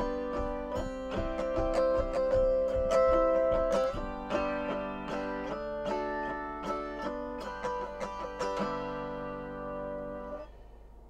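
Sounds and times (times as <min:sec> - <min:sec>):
autoharp chords strummed: 0:00.0 - 0:10.8.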